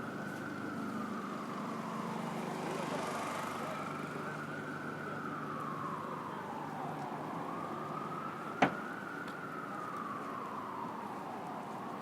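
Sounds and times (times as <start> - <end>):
emergency vehicle siren wailing: 0.0 - 12.0
street traffic noise: 0.0 - 12.0.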